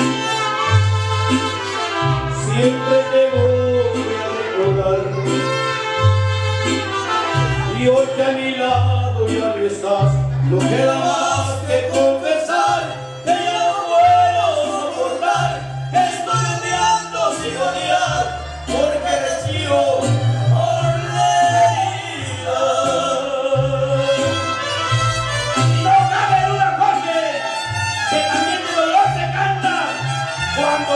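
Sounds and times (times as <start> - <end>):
ranchera song with singing: 0.0 - 30.9.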